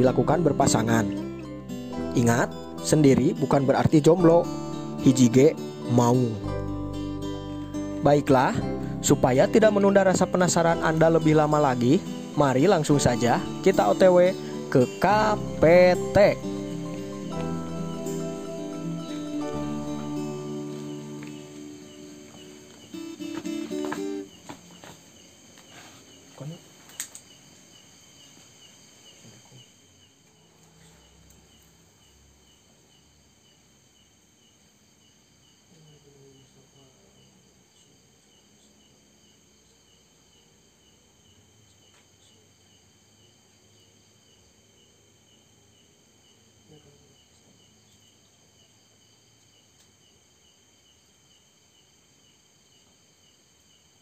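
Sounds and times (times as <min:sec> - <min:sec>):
crickets chirping: 0:00.0 - 0:54.0
high insect trill: 0:00.0 - 0:54.0.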